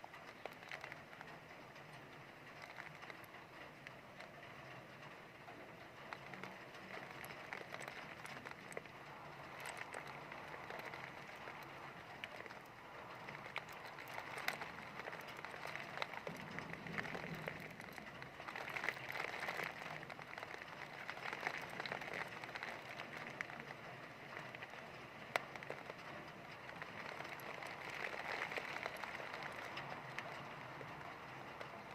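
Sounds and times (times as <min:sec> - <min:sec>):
sharp raindrop hits: 0:00.0 - 0:31.9.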